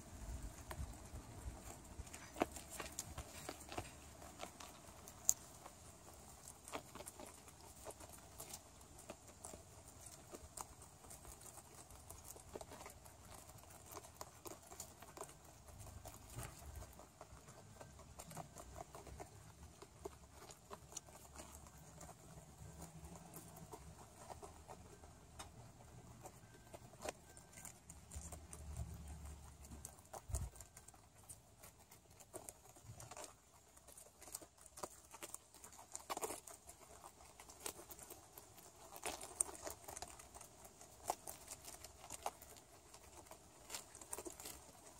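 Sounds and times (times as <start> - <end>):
rabbits chewing leaves: 0.0 - 44.9.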